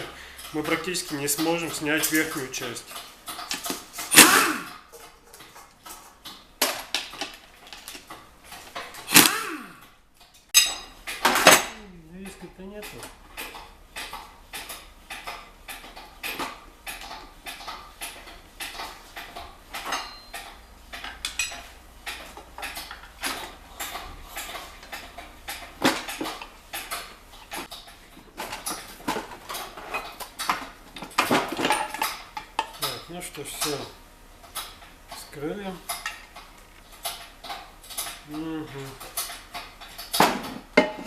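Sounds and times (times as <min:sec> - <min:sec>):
tools and bolts clinking on metal: 0:00.0 - 0:41.0.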